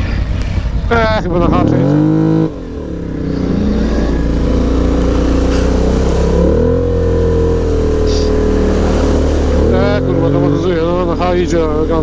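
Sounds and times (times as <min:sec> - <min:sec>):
atv engine running under load: 0:00.0 - 0:12.0.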